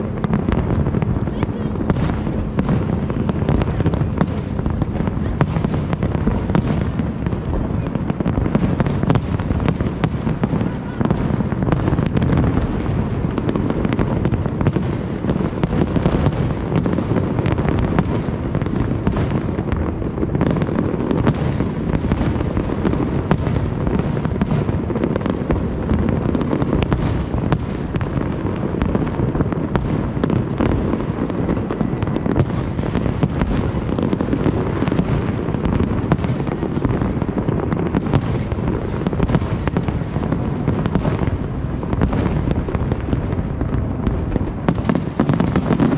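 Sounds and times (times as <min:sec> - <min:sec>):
fireworks booming: 0:00.0 - 0:45.9
fireworks cracking: 0:00.0 - 0:45.9.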